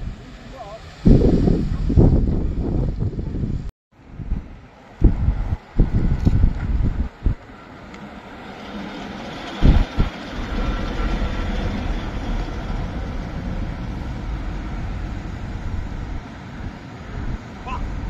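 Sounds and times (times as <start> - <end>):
lorry diesel engine and tyres: 0.0 - 18.0.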